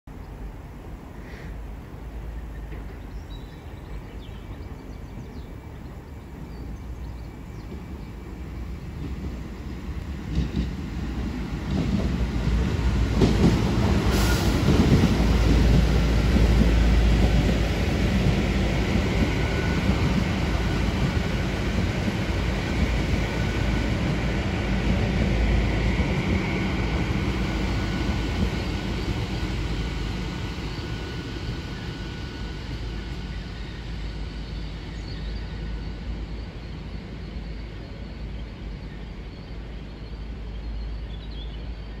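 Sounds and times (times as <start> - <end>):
train wheels rumbling: 0.4 - 42.0.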